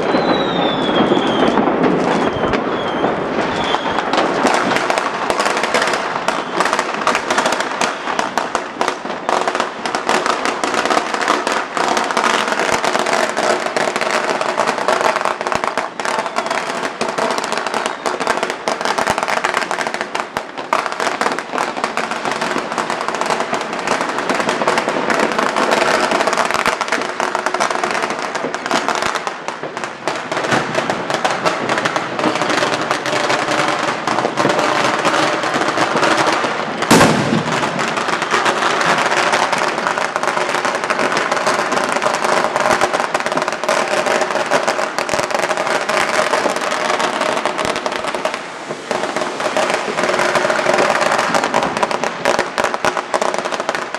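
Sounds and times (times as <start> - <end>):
fireworks cracking and banging: 0.0 - 53.9.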